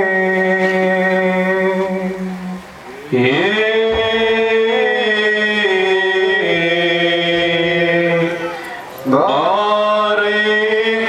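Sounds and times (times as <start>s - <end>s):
man chanting a hymn: 0.0s - 11.0s.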